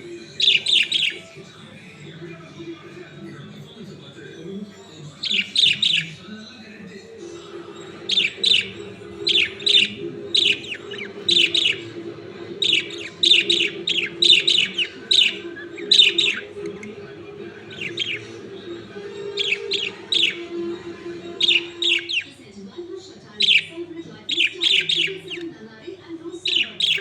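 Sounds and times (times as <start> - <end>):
pet birds chirping: 0.0 - 27.0.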